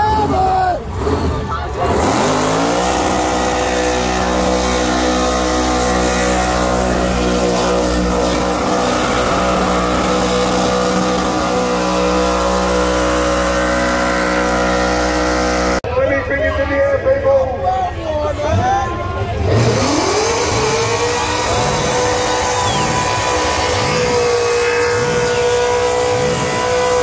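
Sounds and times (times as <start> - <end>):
car engine revving high: 0.2 - 15.8, 19.3 - 27.0.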